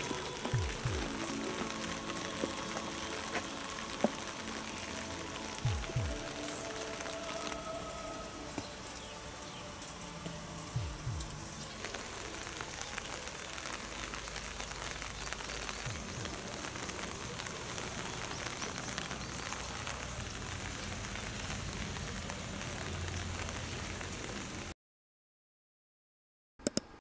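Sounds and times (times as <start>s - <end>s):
rain pattering: 0.0s - 24.8s.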